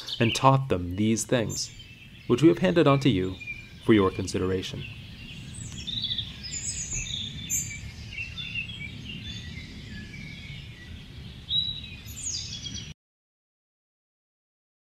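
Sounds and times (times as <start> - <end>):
birds chirping: 0.0 - 13.0
steady low rumble: 0.1 - 12.9.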